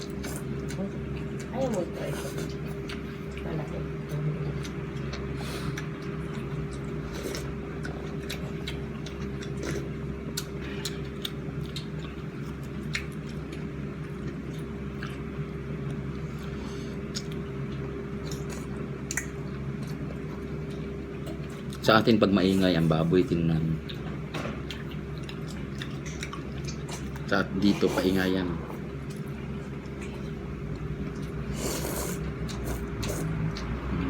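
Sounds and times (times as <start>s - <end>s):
person chewing and eating: 0.0s - 3.5s, 4.5s - 23.1s, 23.8s - 34.0s
steady low hum: 0.0s - 34.0s.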